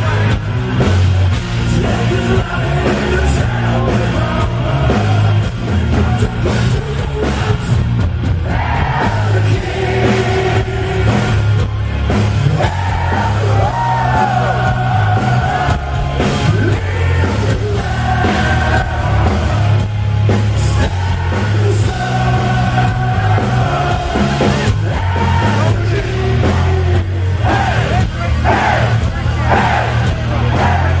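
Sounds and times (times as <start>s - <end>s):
heavy metal band playing: 0.0s - 31.0s
singer shouting and singing: 1.6s - 11.4s, 12.4s - 19.8s, 20.6s - 31.0s.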